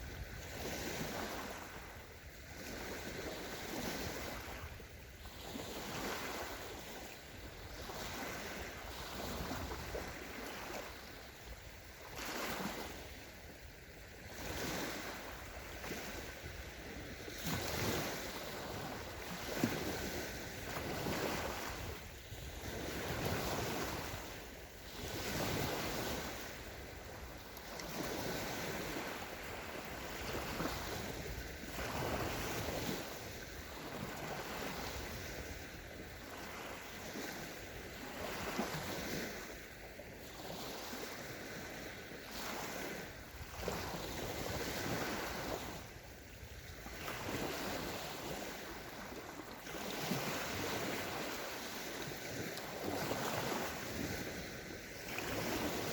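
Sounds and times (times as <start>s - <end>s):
sea waves breaking on sandy shore: 0.0s - 55.9s.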